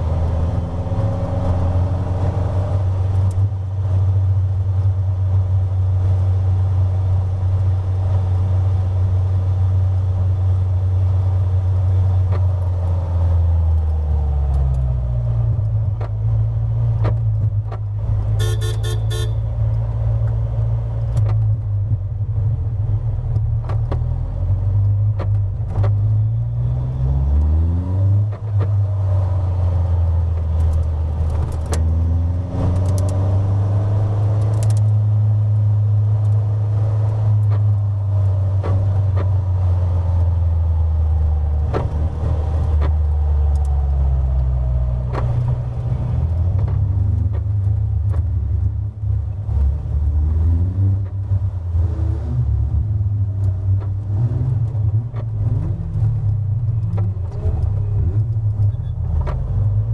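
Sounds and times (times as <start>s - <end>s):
race car engine at low speed: 0.0s - 59.9s.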